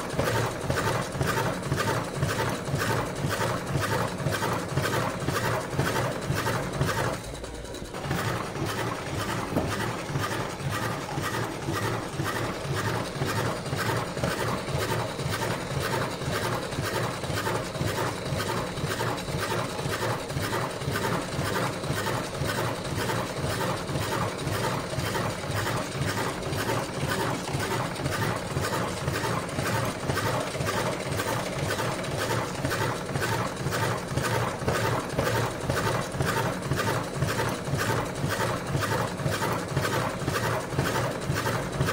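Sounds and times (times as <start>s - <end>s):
machine mechanism clattering rhythmically: 0.0s - 41.9s.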